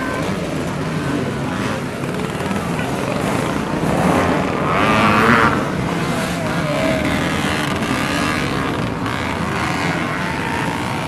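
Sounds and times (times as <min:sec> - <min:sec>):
motorcycle revving close by: 0:00.0 - 0:11.0
motorcycles accelerating: 0:00.0 - 0:11.0.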